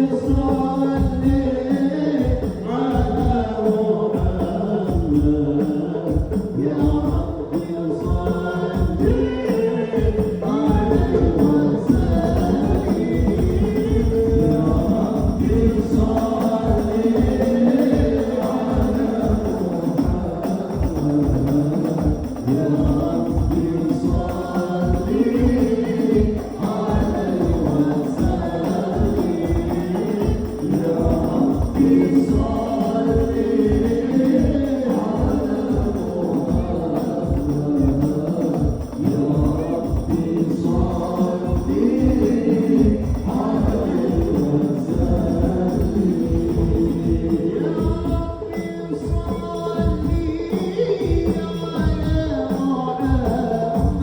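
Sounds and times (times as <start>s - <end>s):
devotional song sung melismatically: 0.0s - 54.0s
steady drum beat: 0.0s - 54.0s.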